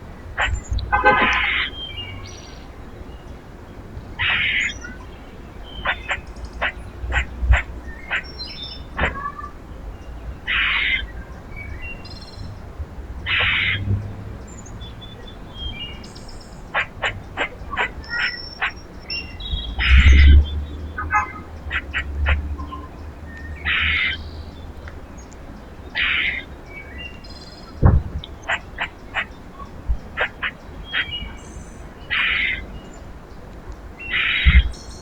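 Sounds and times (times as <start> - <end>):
birds rasping calls: 0.0 - 35.0.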